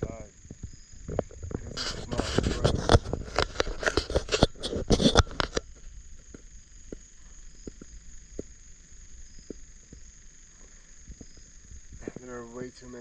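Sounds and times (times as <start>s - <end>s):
crackling rustle near microphone: 0.0s - 13.0s
night insects droning: 0.0s - 13.0s
faint ticks: 0.1s - 13.0s.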